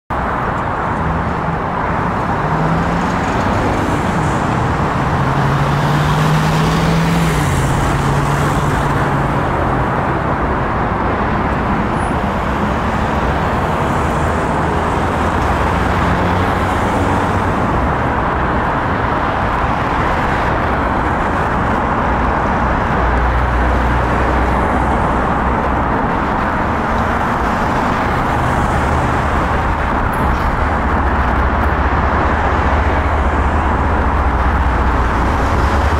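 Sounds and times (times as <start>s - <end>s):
road traffic noise: 0.1s - 35.9s.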